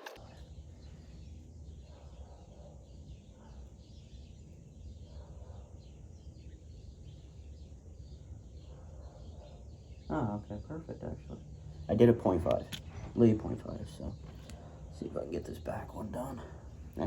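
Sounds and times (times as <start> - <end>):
distant birds chirping: 0.0 - 17.0.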